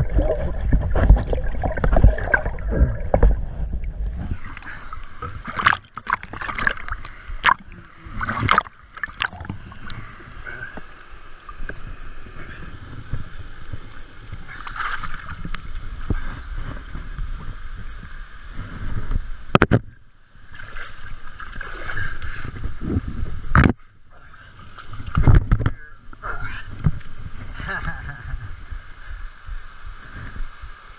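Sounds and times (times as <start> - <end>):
water splashing and sloshing: 0.0 - 23.8, 24.4 - 27.7.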